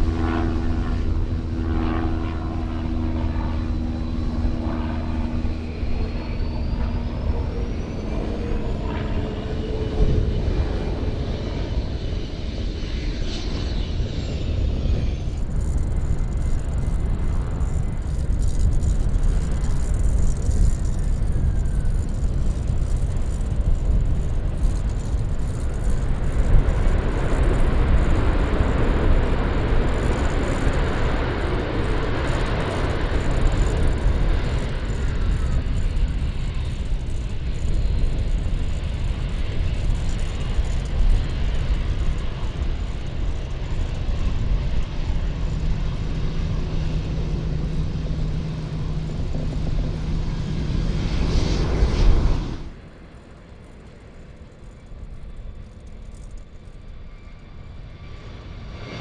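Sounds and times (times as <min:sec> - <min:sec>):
jet airliner passing by: 0:00.0 - 0:59.0
steady low rumble: 0:00.0 - 0:59.0.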